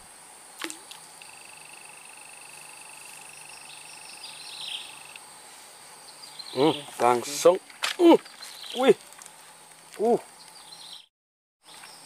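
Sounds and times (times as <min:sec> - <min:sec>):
high-pitched insect whine: 0:00.0 - 0:11.0
insect high trill: 0:00.1 - 0:11.0.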